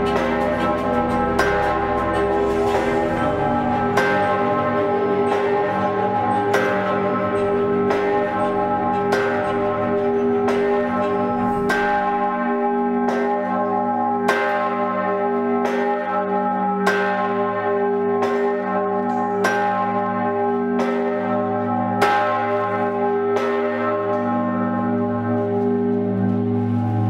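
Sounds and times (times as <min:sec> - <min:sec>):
large bell ringing: 0:00.0 - 0:27.0.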